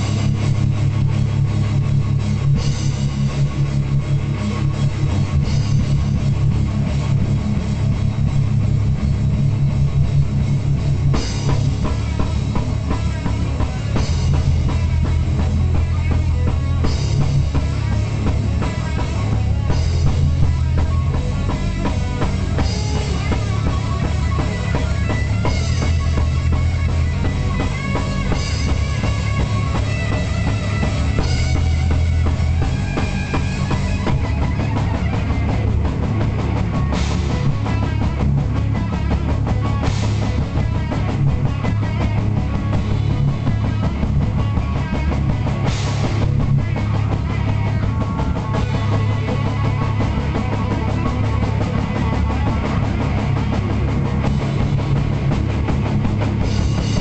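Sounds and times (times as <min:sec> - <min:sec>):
heavy metal band playing: 0:00.0 - 0:57.0.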